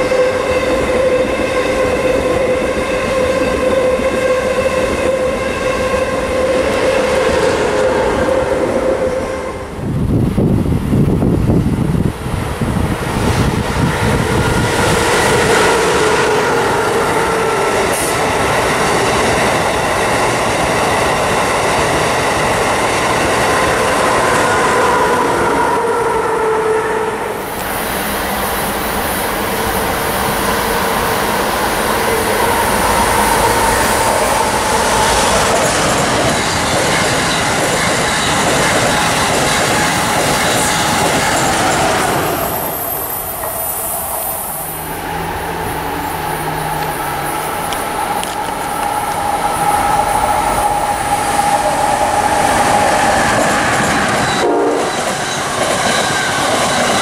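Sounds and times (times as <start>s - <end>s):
high-speed train rushing past: 0.0s - 57.0s.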